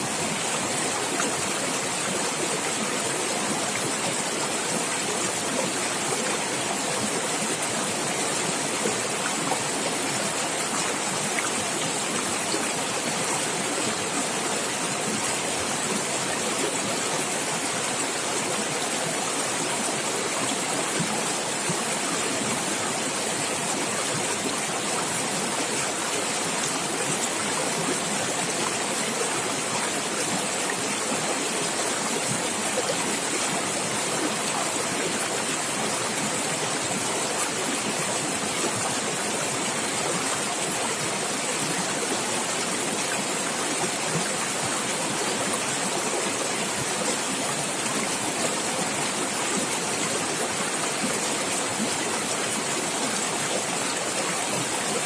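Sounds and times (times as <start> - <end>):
stream water splashing over rocks: 0.0 - 55.0.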